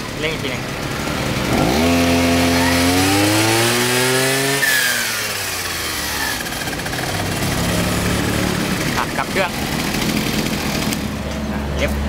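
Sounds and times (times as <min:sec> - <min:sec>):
brush cutter engine revving: 0:00.2 - 0:12.0.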